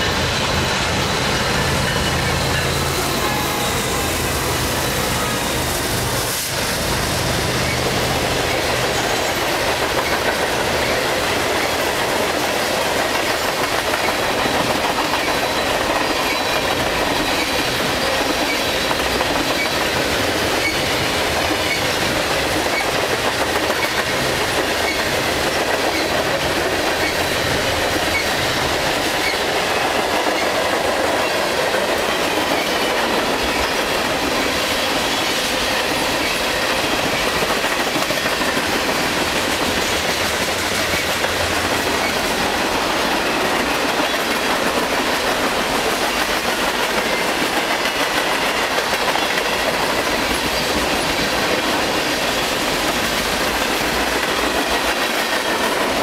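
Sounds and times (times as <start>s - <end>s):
locomotive engines humming: 0.0s - 56.0s
train wheels clickety-clack: 0.0s - 56.0s.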